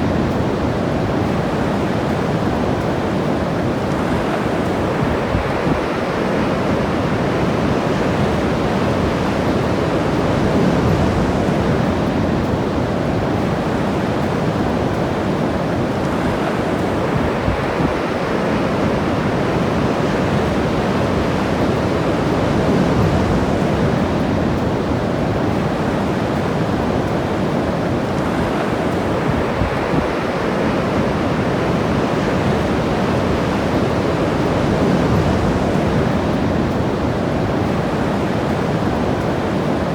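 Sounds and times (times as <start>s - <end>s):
ocean surf washing ashore: 0.0s - 39.9s
waves breaking: 0.0s - 39.9s.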